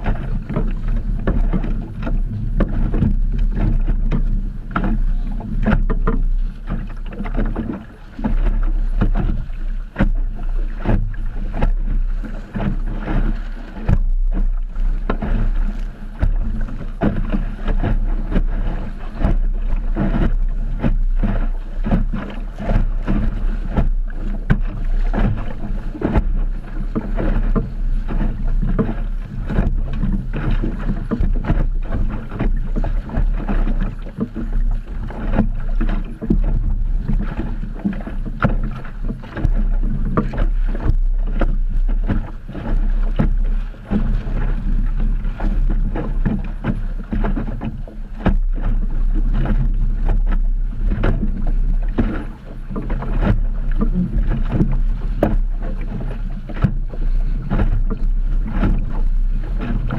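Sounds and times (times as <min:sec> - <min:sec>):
water slapping against hull: 0:00.0 - 0:59.9
wind buffeting microphone: 0:00.0 - 0:59.9.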